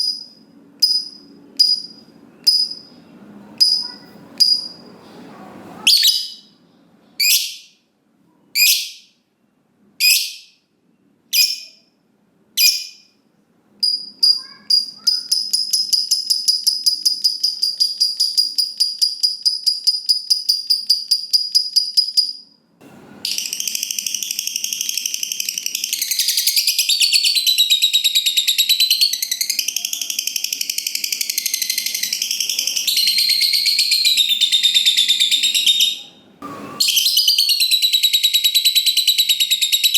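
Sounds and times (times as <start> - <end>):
lovebird chirping and trilling: 0.0 - 4.9, 5.8 - 6.6, 7.2 - 7.8, 8.6 - 9.2, 10.0 - 10.6, 11.3 - 11.8, 12.6 - 13.2, 13.8 - 22.4, 23.2 - 36.2, 36.8 - 39.9.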